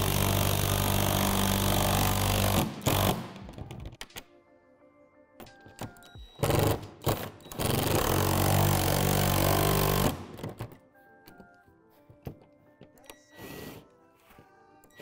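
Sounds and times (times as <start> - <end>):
soft background music: 0.2 - 15.0.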